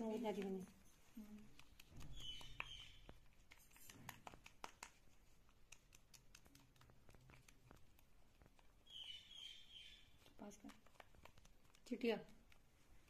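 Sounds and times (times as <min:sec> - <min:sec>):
brush stirring cream in bowl: 0:00.0 - 0:13.0.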